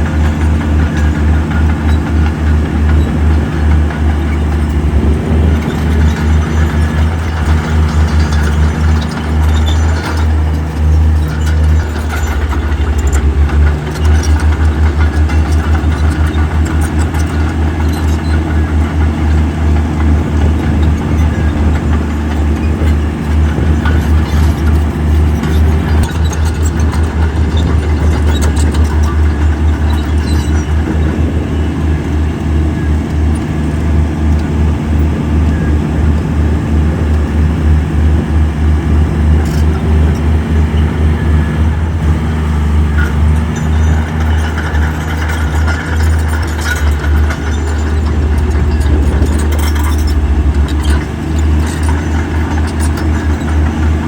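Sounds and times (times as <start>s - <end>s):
clanks and rattles: 0.0s - 54.0s
diesel machine engine throbbing: 0.0s - 54.0s.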